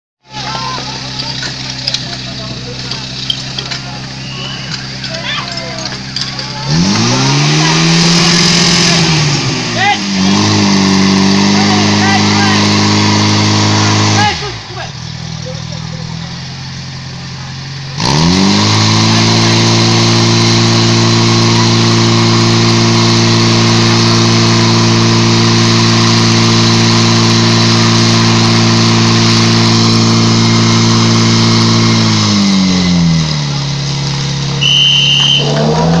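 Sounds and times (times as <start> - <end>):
pump engine revving: 0.2 - 36.0.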